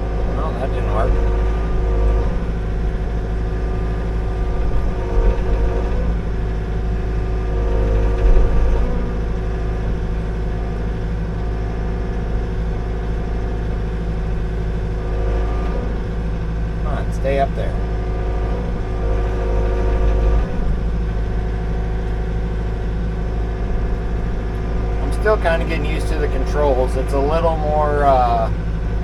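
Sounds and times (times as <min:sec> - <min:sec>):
excavator diesel engine running: 0:00.0 - 0:29.0
hydraulics whining: 0:00.0 - 0:29.0.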